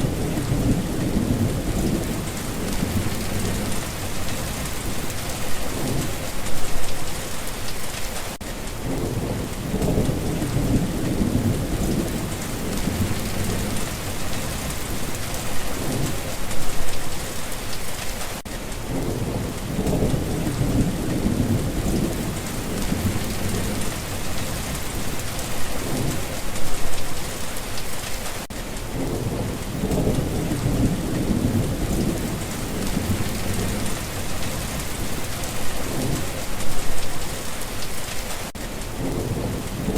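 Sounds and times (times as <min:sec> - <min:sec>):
low thunder rumbling: 0:00.0 - 0:07.2, 0:08.7 - 0:17.2, 0:18.8 - 0:27.2, 0:28.8 - 0:38.0
steady rain: 0:00.0 - 0:39.9.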